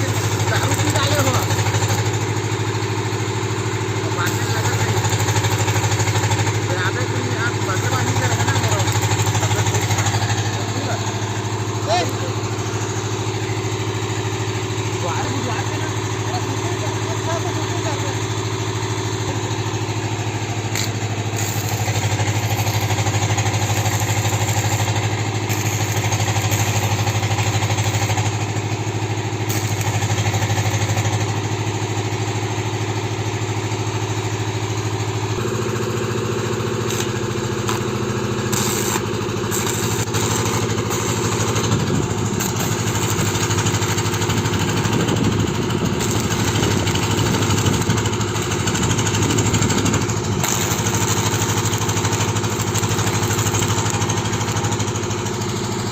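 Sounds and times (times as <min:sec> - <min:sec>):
engine idling: 0:00.0 - 0:55.9.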